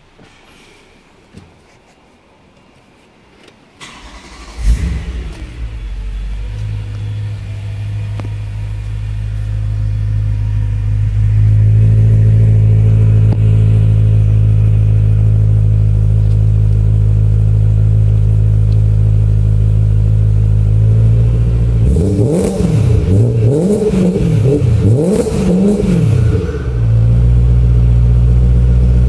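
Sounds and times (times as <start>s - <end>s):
car engine idling: 3.8s - 29.0s.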